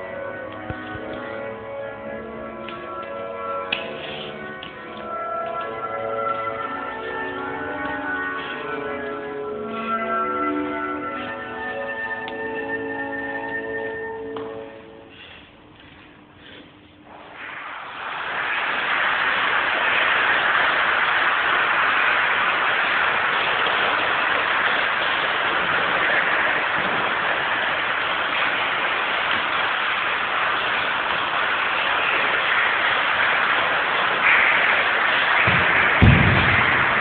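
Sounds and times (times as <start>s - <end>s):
loud static hiss: 0.0s - 37.0s.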